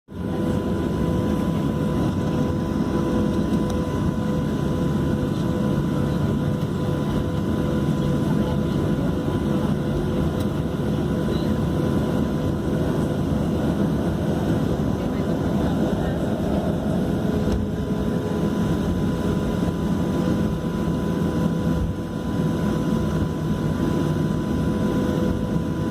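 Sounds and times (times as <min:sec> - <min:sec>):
jet engines and airflow rumbling: 0:00.1 - 0:25.9.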